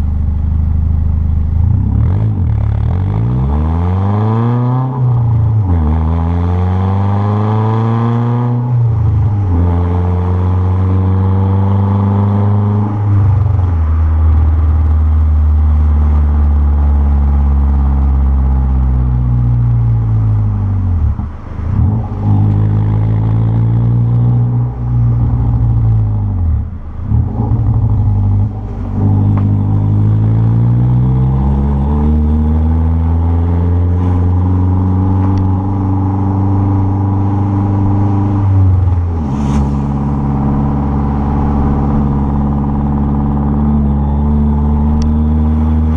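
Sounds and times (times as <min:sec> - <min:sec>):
loud car engine revving: 0:01.6 - 0:45.9.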